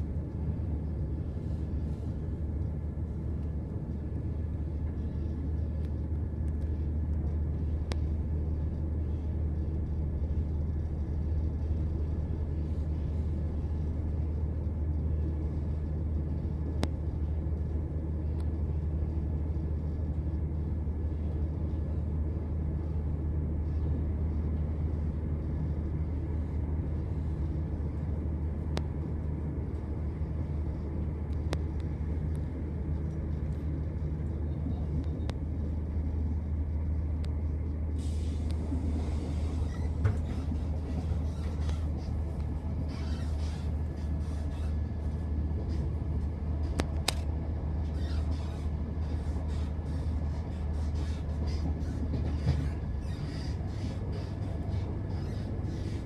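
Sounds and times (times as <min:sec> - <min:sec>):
train carriage rumble and hum: 0:00.0 - 0:56.0.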